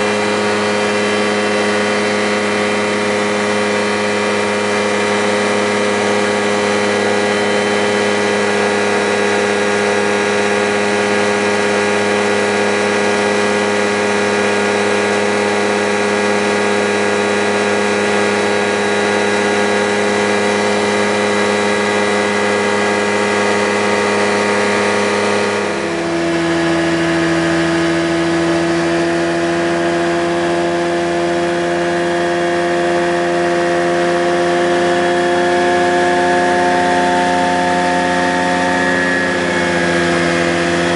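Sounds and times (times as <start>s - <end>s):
light aircraft engine droning: 0.0s - 40.9s.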